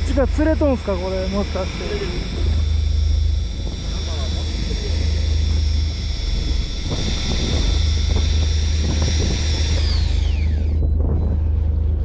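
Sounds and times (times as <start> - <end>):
boat engine hum: 0.0 - 12.0
electric fishing reel whine: 0.0 - 12.0
wind noise on microphone: 0.0 - 12.0.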